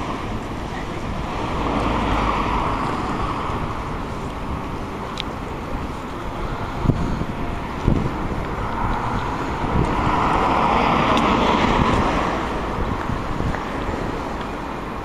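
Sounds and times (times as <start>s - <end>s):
road vehicle passing: 0.0s - 15.0s
wind on microphone: 0.0s - 15.0s.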